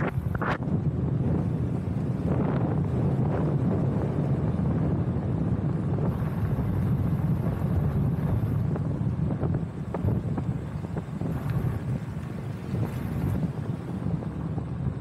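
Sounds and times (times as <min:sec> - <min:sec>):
vehicle running noise: 0:00.0 - 0:15.0
wind rumble on microphone: 0:00.0 - 0:15.0.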